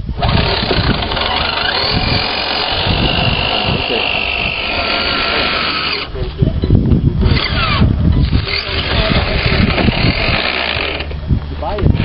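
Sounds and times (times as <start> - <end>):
small electric motor whining: 0.1 - 6.4, 7.2 - 12.0.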